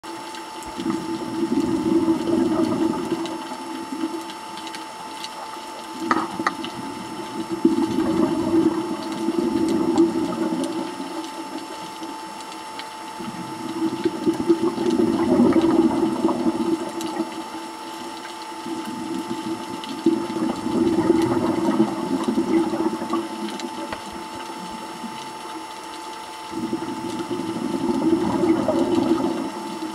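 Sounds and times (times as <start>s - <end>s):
exhaled bubbles gushing: 0.0s - 29.9s.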